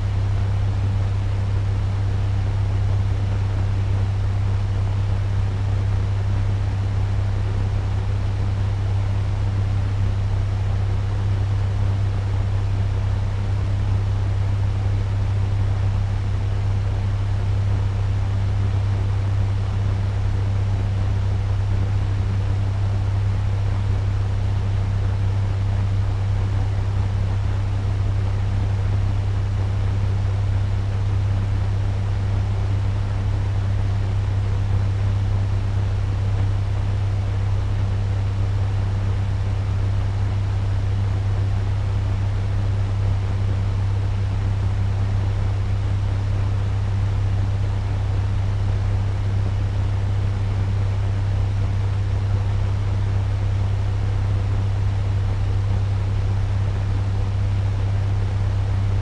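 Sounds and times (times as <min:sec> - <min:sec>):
fan running: 0:00.0 - 0:59.0.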